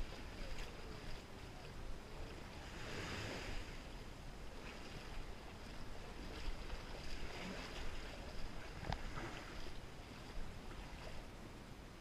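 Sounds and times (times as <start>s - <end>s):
rushing water: 0.0s - 12.0s
wind: 0.0s - 12.0s.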